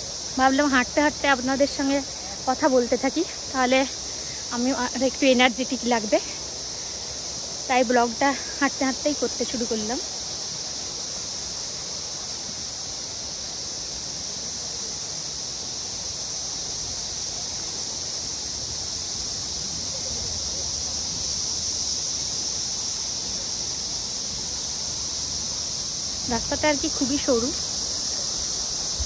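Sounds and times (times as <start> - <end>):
shrill insect chorus: 0.0 - 29.0.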